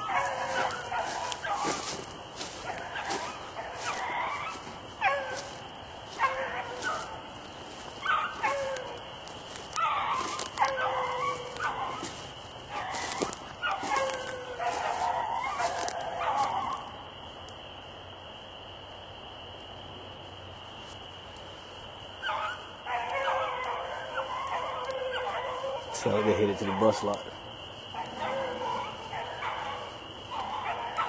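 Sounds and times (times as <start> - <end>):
dogs baying: 0.0 - 17.0, 22.2 - 31.0
dry brush crackling: 0.0 - 18.0, 19.6 - 31.0.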